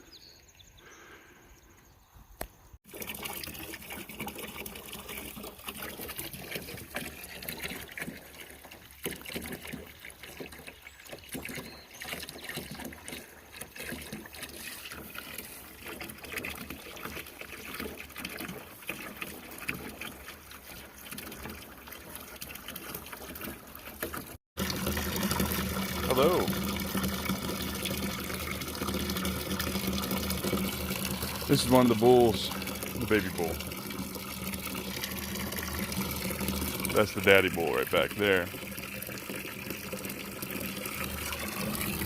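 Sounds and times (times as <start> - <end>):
running water splashing: 2.9 - 42.0.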